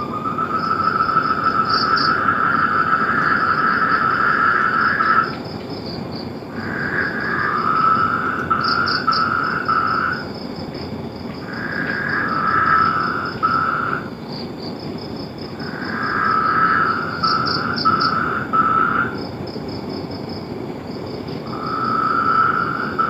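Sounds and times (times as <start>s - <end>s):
frogs trilling: 0.0s - 23.0s.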